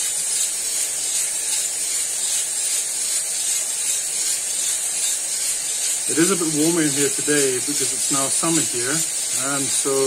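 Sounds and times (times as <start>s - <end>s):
coffee roaster airy hiss: 0.0s - 10.0s.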